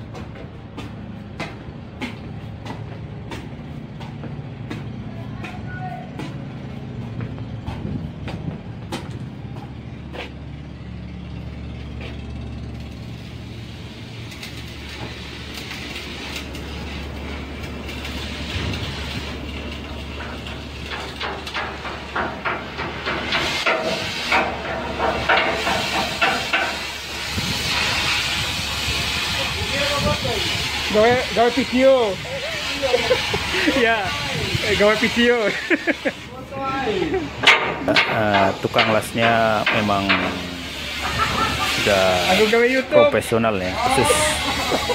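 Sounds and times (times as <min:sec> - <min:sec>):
ship engine rumbling: 0:00.0 - 0:44.9
welding hiss and crackling: 0:00.0 - 0:44.9.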